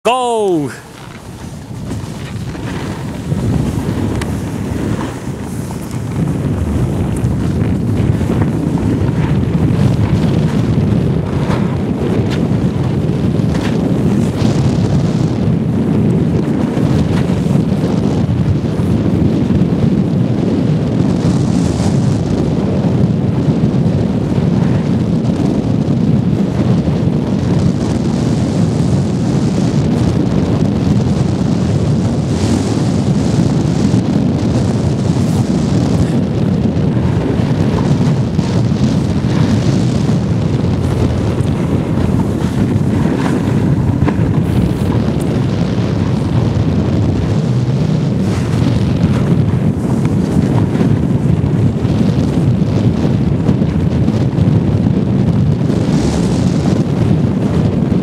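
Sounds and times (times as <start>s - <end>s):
wind rumble on microphone: 0.0s - 58.0s
skis sliding over packed snow: 0.3s - 54.5s.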